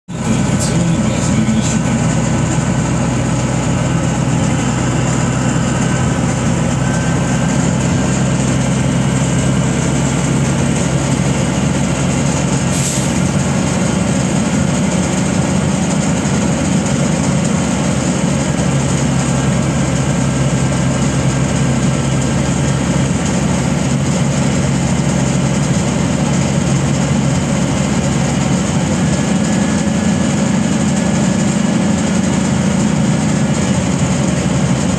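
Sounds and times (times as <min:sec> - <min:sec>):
diesel engine drone: 0:00.1 - 0:34.9.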